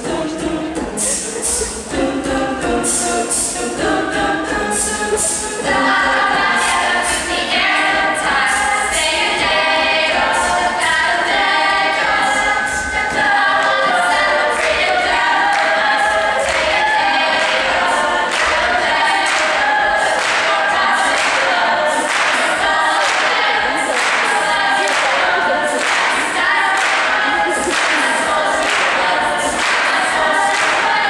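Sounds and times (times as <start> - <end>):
a cappella group singing: 0.0 - 31.0.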